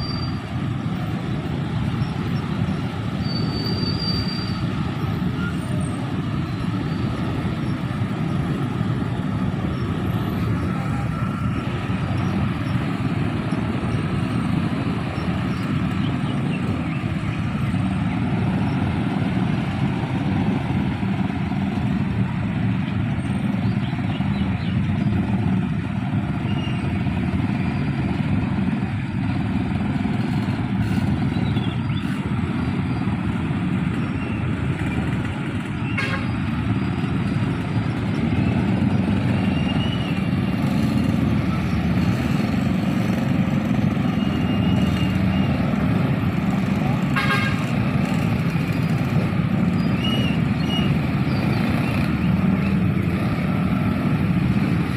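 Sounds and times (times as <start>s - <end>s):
passing vehicles rumbling: 0.0s - 54.9s.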